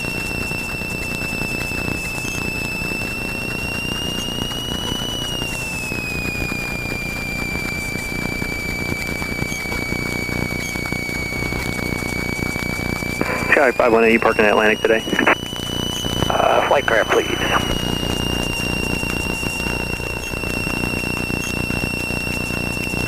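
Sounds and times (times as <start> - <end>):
aircraft engine running: 0.0 - 23.0
high-pitched electrical whine: 0.0 - 23.0.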